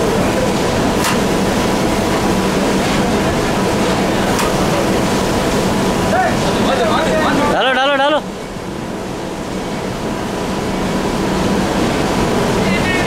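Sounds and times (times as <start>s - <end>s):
conveyor mechanical din: 0.0s - 13.0s.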